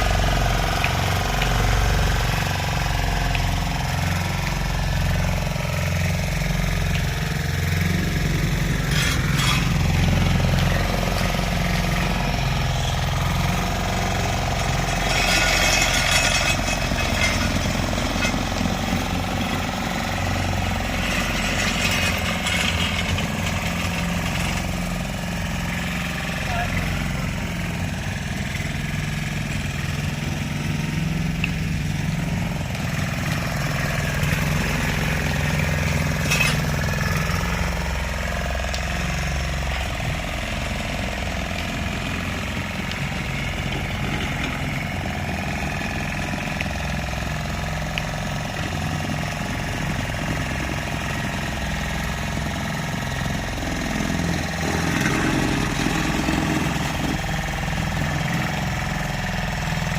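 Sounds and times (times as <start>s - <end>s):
road roller engine running: 0.0s - 59.9s.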